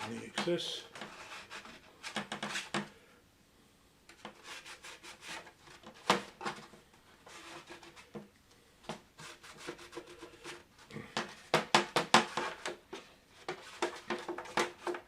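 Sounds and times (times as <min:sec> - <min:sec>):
rubbing on plastic parts: 0:00.0 - 0:02.9, 0:04.1 - 0:15.0.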